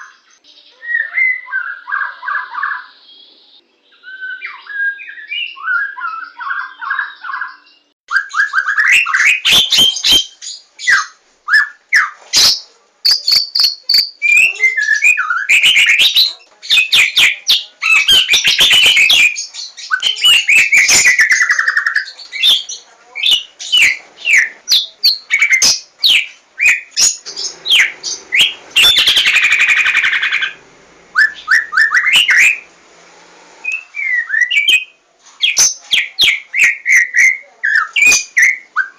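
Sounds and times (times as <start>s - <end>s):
bird singing whistled song: 0.0s - 32.7s, 33.6s - 38.9s.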